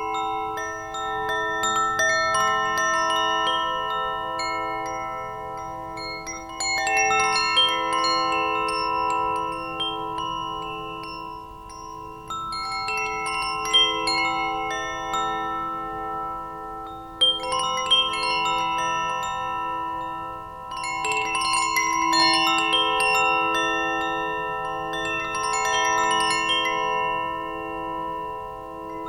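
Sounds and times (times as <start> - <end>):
wind chimes ringing: 0.0 - 29.0.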